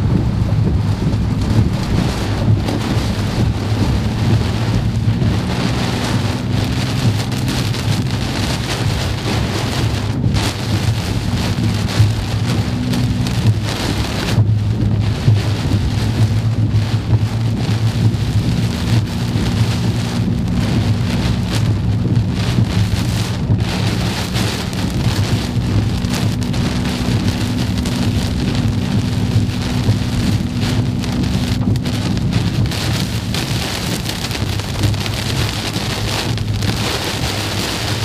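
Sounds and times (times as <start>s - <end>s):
car low hum: 0.0s - 38.0s
rain pounding on car roof: 0.0s - 38.0s.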